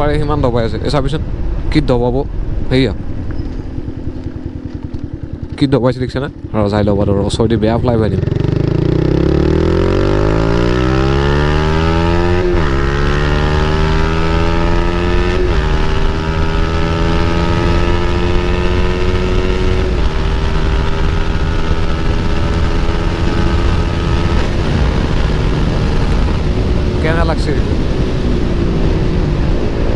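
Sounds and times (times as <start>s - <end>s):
motorcycle accelerating through gears: 2.3s - 29.9s.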